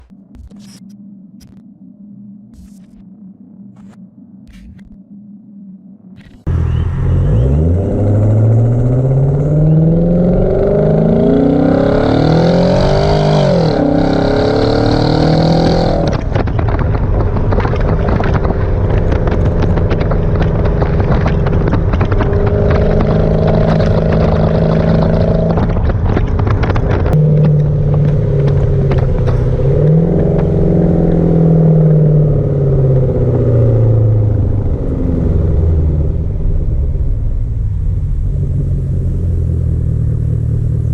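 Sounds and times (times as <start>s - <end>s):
car engine revving: 6.1s - 40.9s
exhaust crackle: 6.1s - 40.9s.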